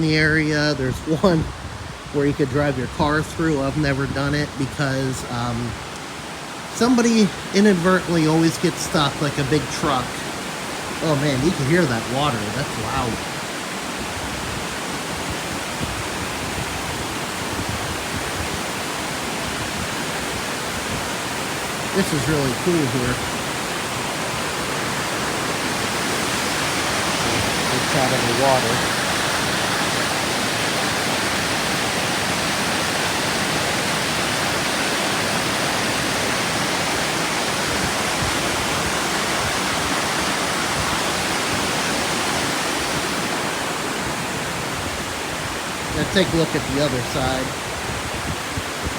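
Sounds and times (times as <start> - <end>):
water rushing: 0.0 - 48.9.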